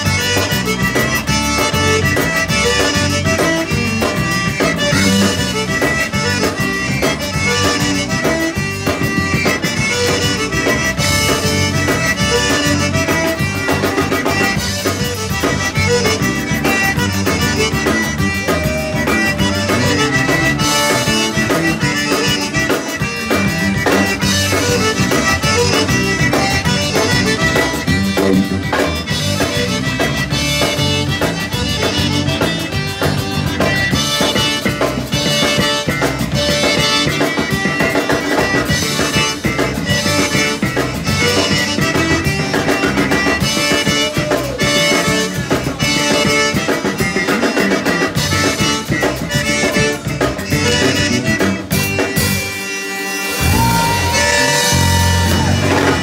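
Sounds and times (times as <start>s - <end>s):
accordion: 0.0s - 56.0s
bass: 0.0s - 56.0s
electric guitar: 0.0s - 56.0s
steady drum beat: 0.0s - 56.0s.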